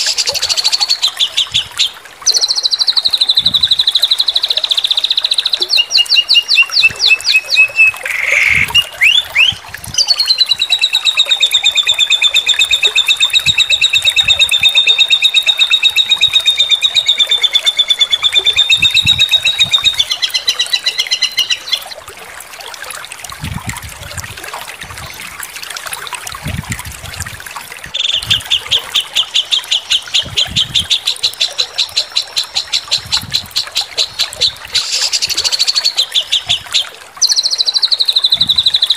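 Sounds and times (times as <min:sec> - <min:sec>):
songbird trilling: 0:00.0 - 0:21.8, 0:27.9 - 0:38.9.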